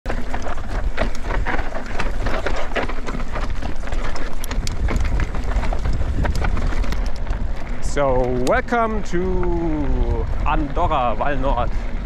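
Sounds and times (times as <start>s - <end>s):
bike rattling: 0.1s - 12.0s
tyres crunching over stones: 0.1s - 12.0s
wind rumble on microphone: 0.1s - 12.0s.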